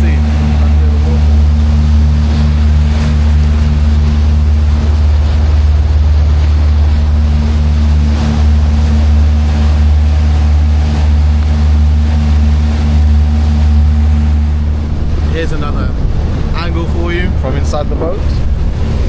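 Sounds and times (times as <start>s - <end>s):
boat engine droning: 0.0s - 19.0s
water rushing past hull: 0.0s - 19.0s.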